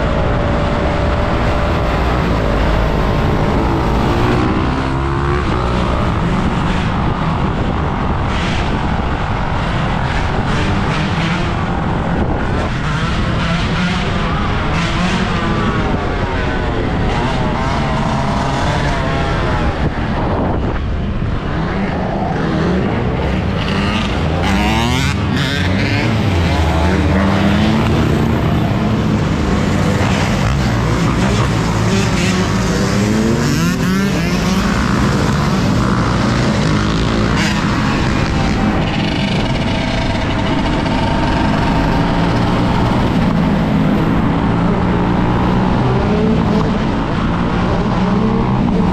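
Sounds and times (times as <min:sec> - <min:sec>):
off-road motorcycle engine: 0:00.0 - 0:48.9
steady rush of noise: 0:00.0 - 0:48.9.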